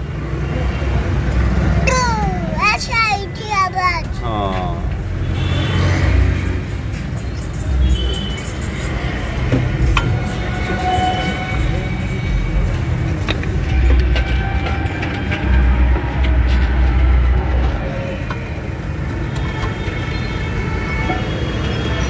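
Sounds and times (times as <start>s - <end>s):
motor vehicle rumbling: 0.0s - 22.0s.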